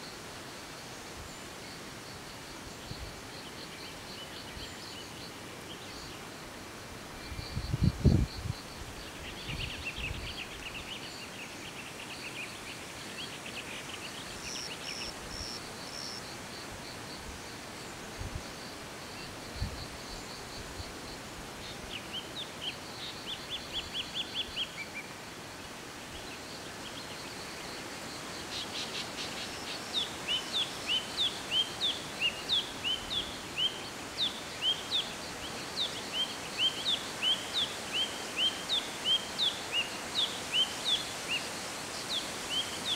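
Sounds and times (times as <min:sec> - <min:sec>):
steady outdoor hiss: 0:00.0 - 0:42.9.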